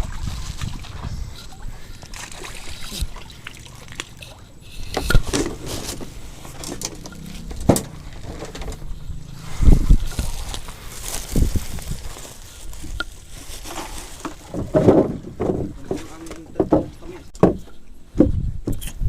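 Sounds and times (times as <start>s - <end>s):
water lapping against a boat: 0.0s - 17.9s.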